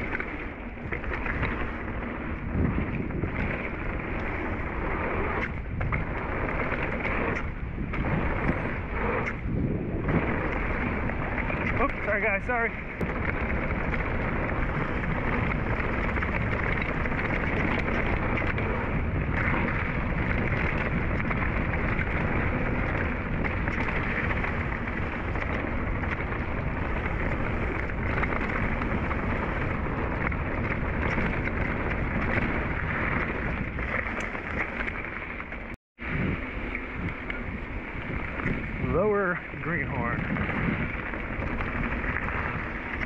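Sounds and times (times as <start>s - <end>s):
bike tyres rolling on dirt: 0.0s - 43.0s
wind rushing over microphone: 0.0s - 43.0s.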